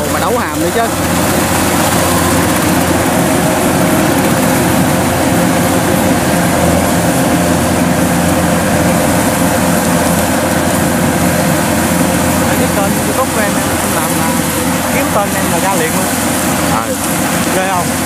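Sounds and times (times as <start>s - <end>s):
combine harvesters running: 0.0s - 18.0s.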